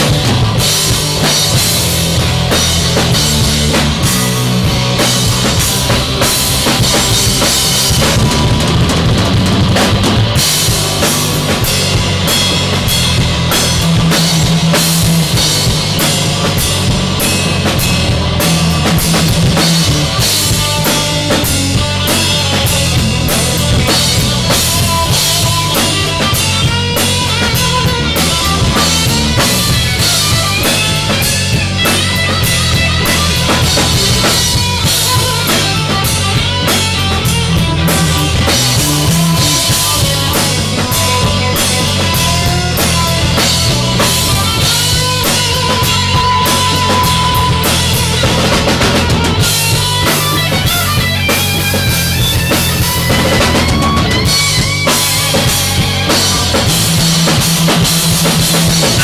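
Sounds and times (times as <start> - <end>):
bass line: 0.0 - 59.0
drum kit beat: 0.0 - 59.0
loud instrumental rock music: 0.0 - 59.0.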